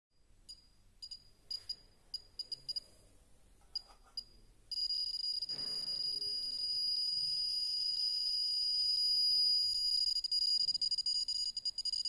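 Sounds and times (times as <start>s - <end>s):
continuous high-pitched alarm tone: 0.5s - 2.9s, 3.7s - 12.0s
geiger counter beeps: 0.5s - 2.9s, 3.7s - 12.0s.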